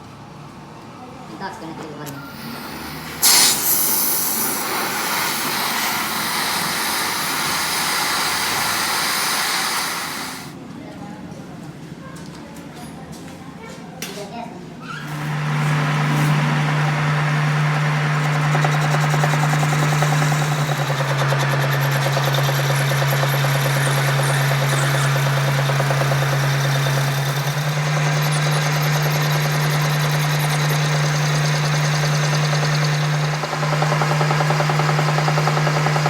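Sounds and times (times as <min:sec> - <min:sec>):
workshop machine humming: 0:02.0 - 0:10.6, 0:15.0 - 0:36.0.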